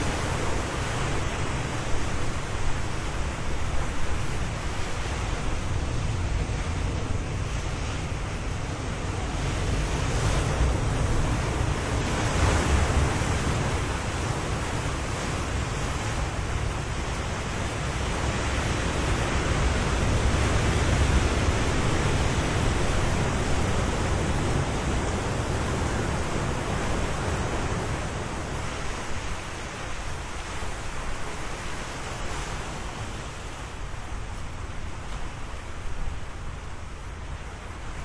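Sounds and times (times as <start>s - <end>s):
ocean surf washing in: 0.0s - 38.0s.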